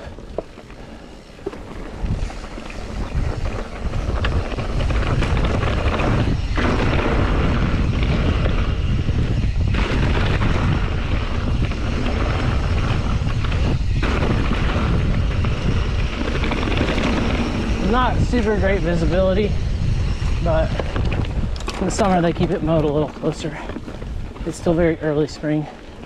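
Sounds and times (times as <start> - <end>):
bike rolling over dirt trail: 0.0 - 26.0
wind buffeting microphone: 0.0 - 26.0.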